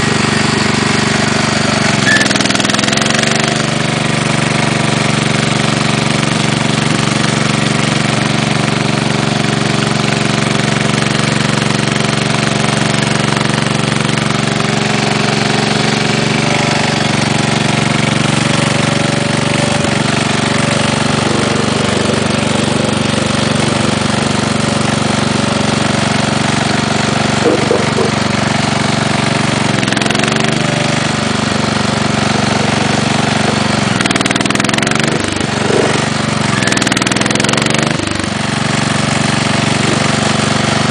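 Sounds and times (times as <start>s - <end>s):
tractor engine knocking: 0.0s - 40.9s.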